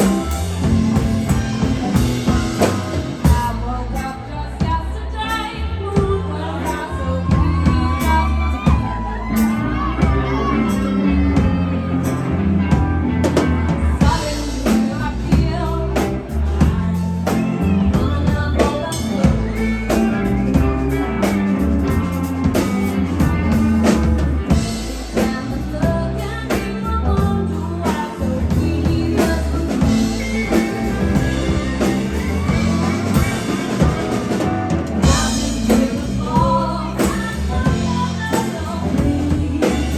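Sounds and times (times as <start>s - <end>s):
person singing: 0.0s - 12.8s, 13.8s - 39.9s
bass: 0.0s - 39.9s
drum kit: 0.0s - 39.9s
guitar: 0.0s - 39.9s.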